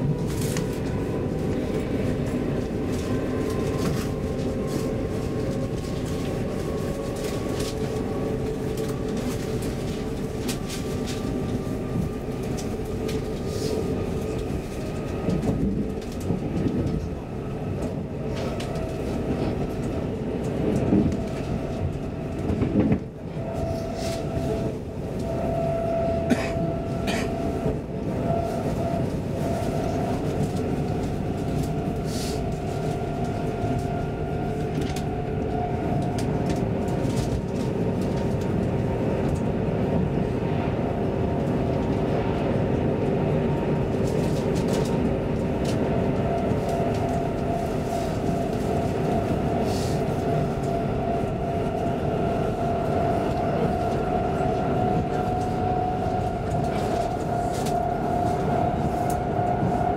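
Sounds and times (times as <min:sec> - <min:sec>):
steady whine: 0:00.0 - 0:59.9
train rumble: 0:00.0 - 0:59.9.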